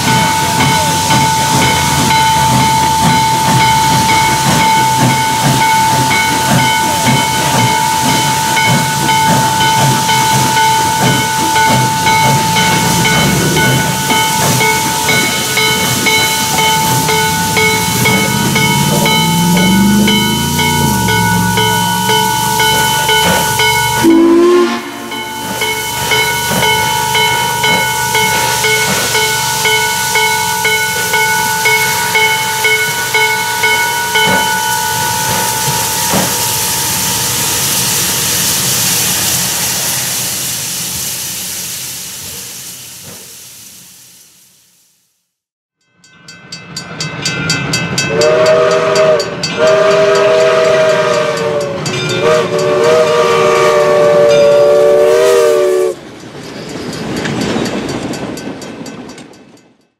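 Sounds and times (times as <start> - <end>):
locomotive bell ringing: 0.0 - 39.8, 45.8 - 59.9
steam locomotive chime whistle: 0.0 - 40.6, 46.0 - 58.6
steam locomotive hissing steam: 0.0 - 45.2, 48.1 - 58.3.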